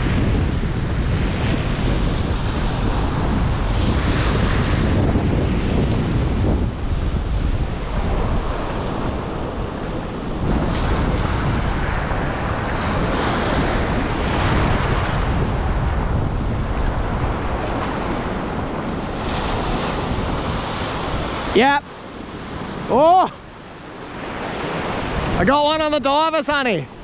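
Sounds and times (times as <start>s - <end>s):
ocean surf breaking: 0.0s - 27.0s
wind rumbling on microphone: 0.0s - 27.0s.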